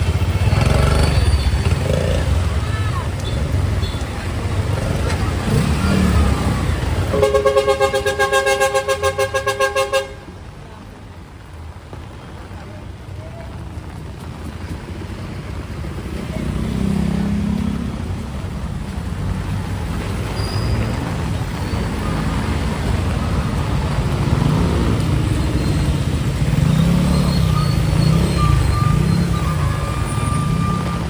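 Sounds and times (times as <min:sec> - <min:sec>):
road noise hiss: 0:00.0 - 0:31.0.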